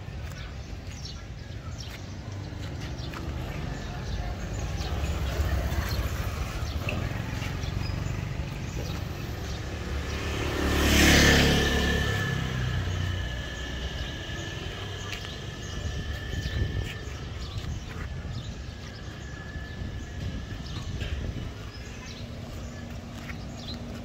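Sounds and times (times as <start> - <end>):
vehicle passing by: 2.5 - 24.0.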